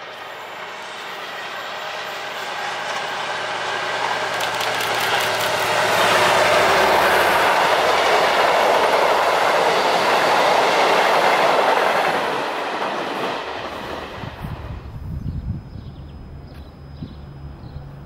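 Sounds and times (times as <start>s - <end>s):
diesel locomotive engine hum: 0.0s - 18.0s
train wheels rolling on rails: 0.0s - 18.0s.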